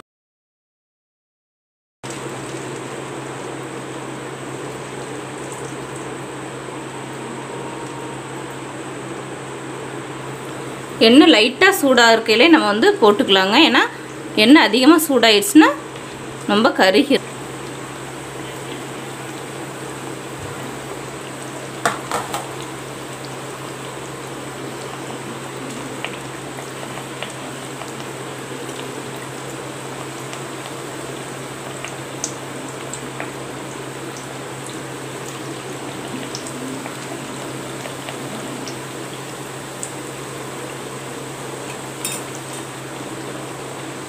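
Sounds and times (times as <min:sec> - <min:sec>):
dough deep-frying in oil: 0:02.0 - 0:44.0.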